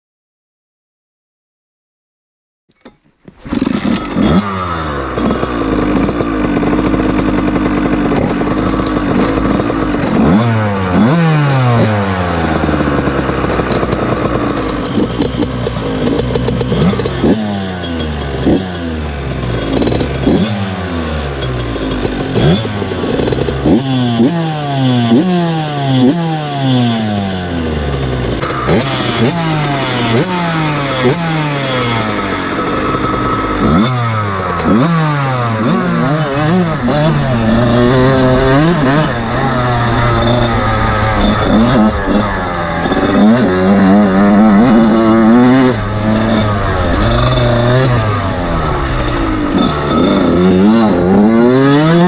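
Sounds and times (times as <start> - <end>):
motocross bike engine revving: 3.3 - 52.0.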